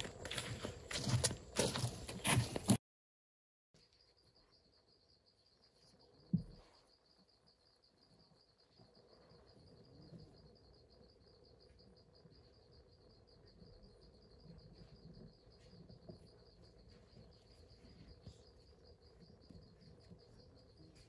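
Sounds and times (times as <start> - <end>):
insect trilling: 3.8 - 21.0.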